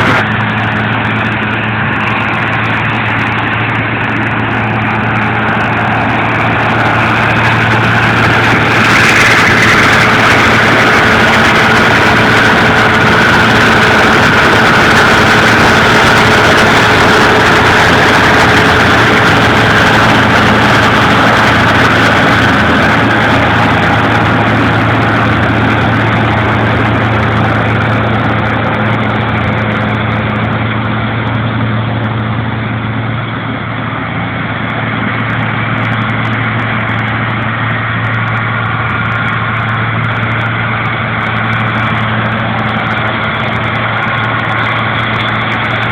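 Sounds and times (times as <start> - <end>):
baling machinery noise: 0.0 - 45.9
tractor engine running: 0.0 - 45.9.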